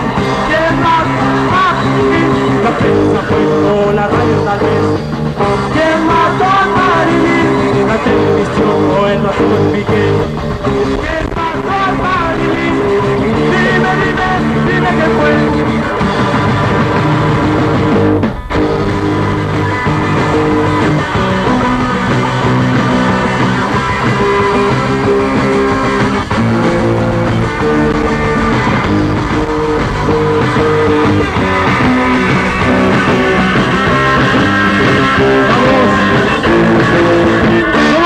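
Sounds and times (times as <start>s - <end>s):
electric guitar: 0.0s - 38.0s
live rock band: 0.0s - 38.0s.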